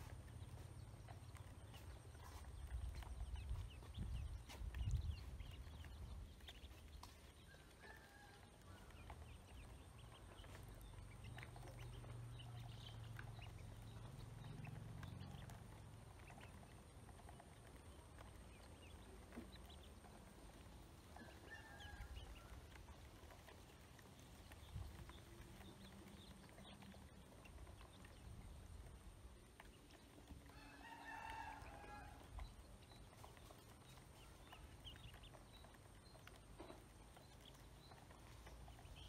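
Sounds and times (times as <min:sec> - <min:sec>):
ducklings pecking feed: 0:00.0 - 0:39.0.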